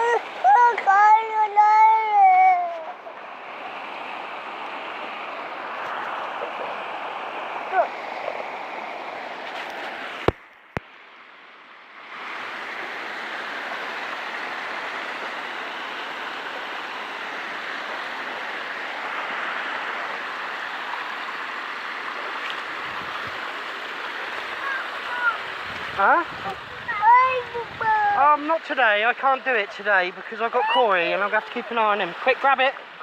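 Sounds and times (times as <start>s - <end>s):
water rushing at waterfall: 0.0s - 33.0s.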